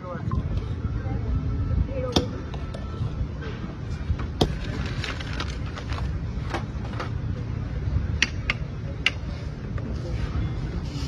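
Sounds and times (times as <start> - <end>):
low street rumble: 0.0 - 11.0.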